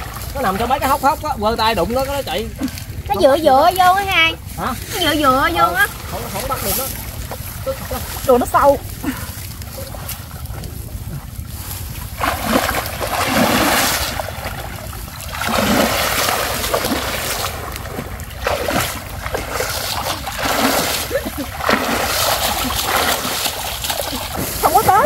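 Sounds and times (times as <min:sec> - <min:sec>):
steady low rumble: 0:00.0 - 0:25.0
water splashing and sloshing: 0:00.0 - 0:25.0.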